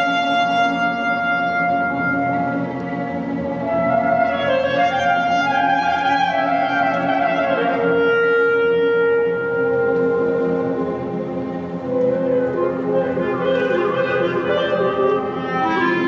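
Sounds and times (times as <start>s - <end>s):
chamber ensemble playing slow piece: 0.0s - 16.0s.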